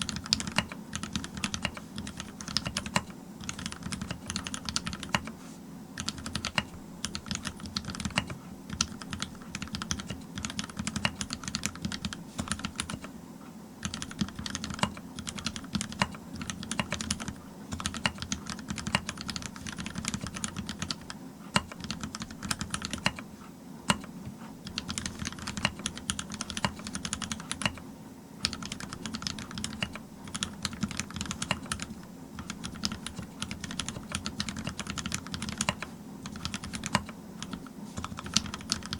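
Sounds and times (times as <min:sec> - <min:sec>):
mechanical keyboard clacks: 0:00.0 - 0:05.3, 0:06.0 - 0:13.1, 0:13.8 - 0:23.2, 0:23.9 - 0:27.8, 0:28.4 - 0:38.9.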